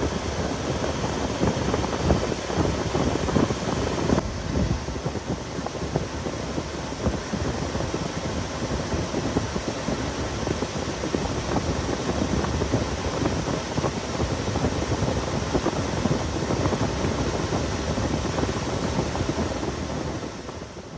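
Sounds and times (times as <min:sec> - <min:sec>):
air conditioning blower: 0:00.0 - 0:20.9.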